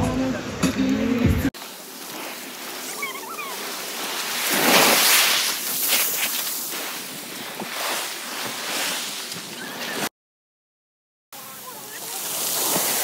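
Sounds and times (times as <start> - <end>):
ocean waves crashing on beach: 0.0 - 10.1, 11.4 - 13.0.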